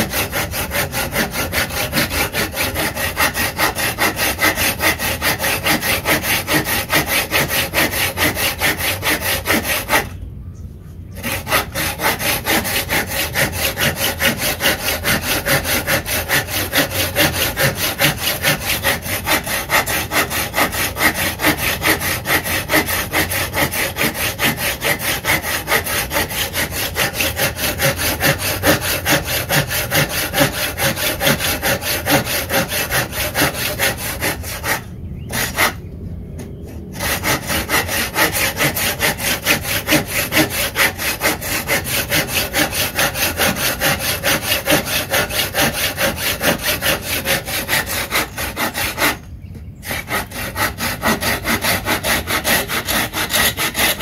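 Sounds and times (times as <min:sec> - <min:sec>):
hand saw cutting wood: 0:00.0 - 0:10.2, 0:11.1 - 0:35.8, 0:36.7 - 0:54.0.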